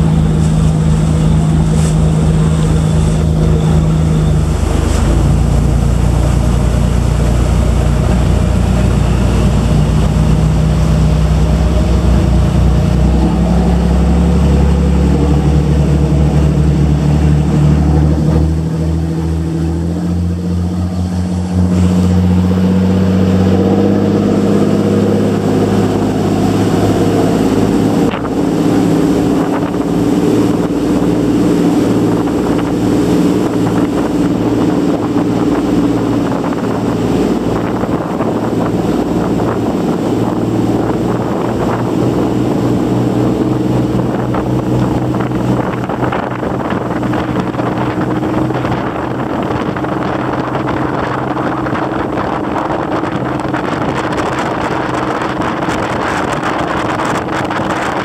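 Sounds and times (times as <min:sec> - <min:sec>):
motorboat engine running: 0:00.0 - 0:58.0
rush of wake: 0:00.0 - 0:58.0
wind on microphone: 0:00.0 - 0:58.0.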